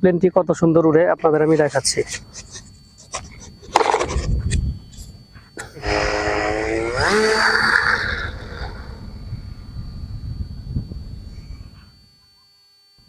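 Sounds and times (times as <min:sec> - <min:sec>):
electric motor and propeller whine: 0:01.6 - 0:13.0.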